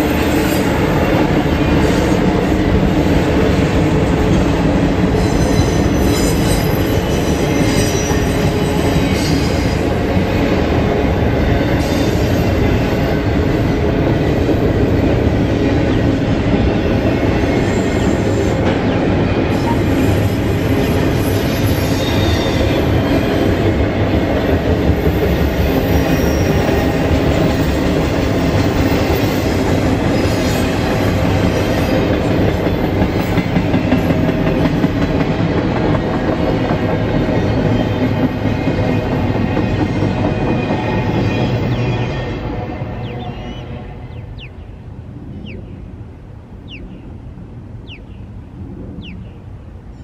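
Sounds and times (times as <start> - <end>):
freight train wheels rumbling: 0.0 - 50.0.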